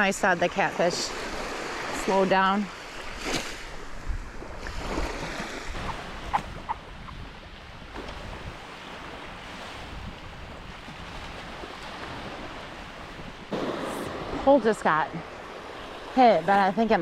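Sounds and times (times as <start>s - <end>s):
surf washing on beach: 0.0s - 17.0s
wind buffeting microphone: 3.1s - 17.0s.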